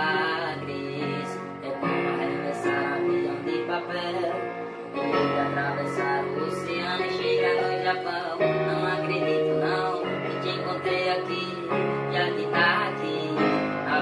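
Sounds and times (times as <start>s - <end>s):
electronic keyboard chords: 0.0s - 14.0s
man singing: 0.0s - 14.0s.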